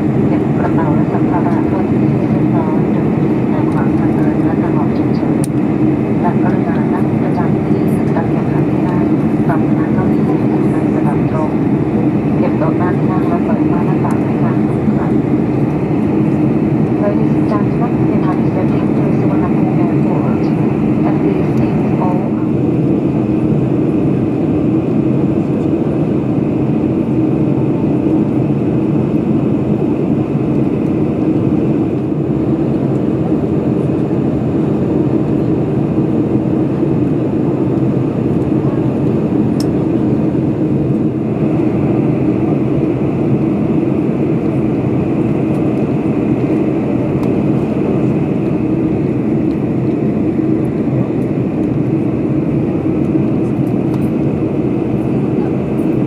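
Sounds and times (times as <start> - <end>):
airliner cabin roar: 0.0 - 56.0.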